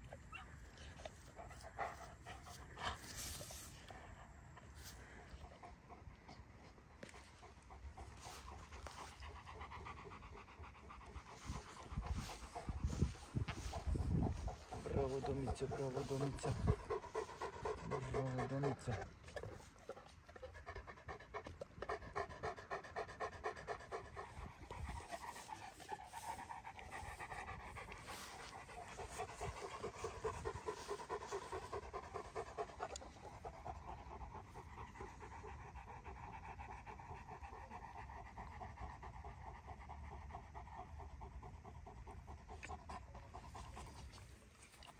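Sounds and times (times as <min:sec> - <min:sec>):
dog panting: 0:00.0 - 0:44.9.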